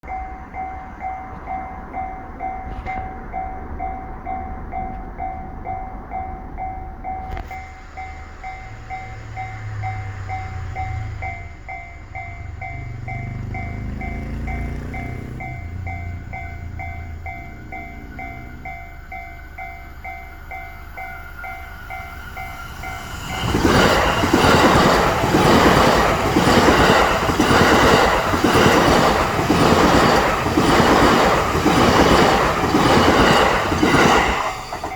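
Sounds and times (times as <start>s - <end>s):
train wheels clacking on rails: 0.0s - 19.2s, 20.0s - 34.9s
level crossing warning bell: 0.0s - 34.9s.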